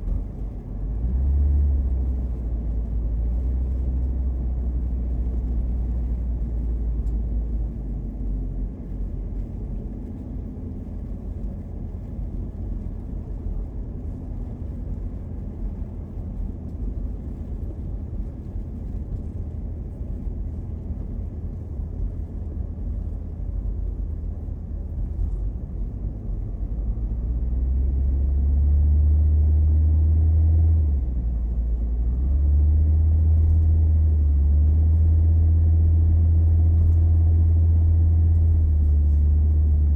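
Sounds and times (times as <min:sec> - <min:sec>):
car interior road and engine noise: 0:00.0 - 0:39.9.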